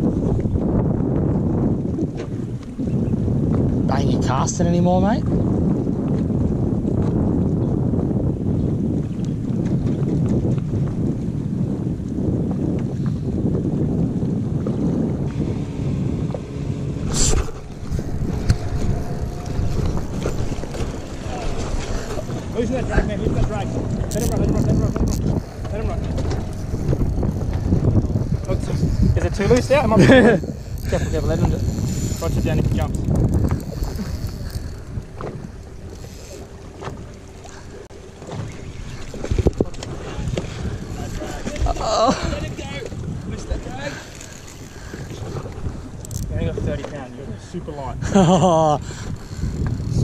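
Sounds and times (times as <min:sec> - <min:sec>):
wind rumbling on microphone: 0:00.0 - 0:50.0.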